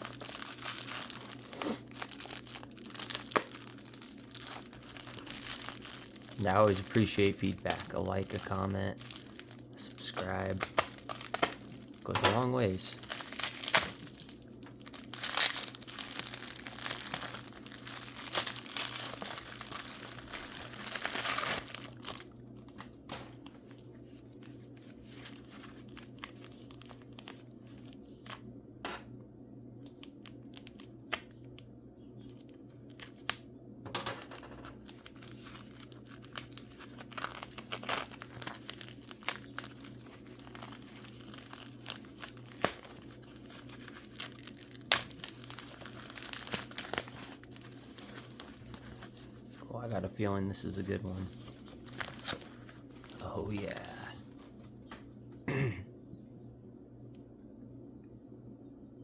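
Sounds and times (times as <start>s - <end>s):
paper crinkling and tearing: 0.0s - 28.4s, 34.2s - 54.7s
steady low hum: 0.0s - 59.0s.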